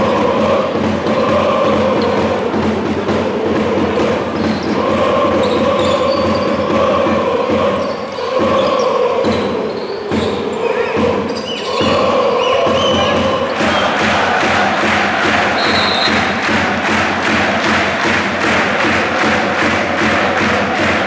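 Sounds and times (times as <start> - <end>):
crowd chanting in unison: 0.0 - 21.0.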